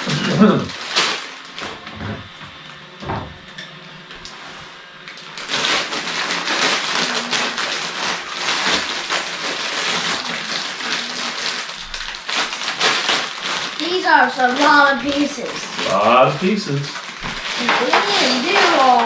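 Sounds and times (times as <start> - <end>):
plastic bag crinkling: 0.0 - 2.0, 5.1 - 19.0.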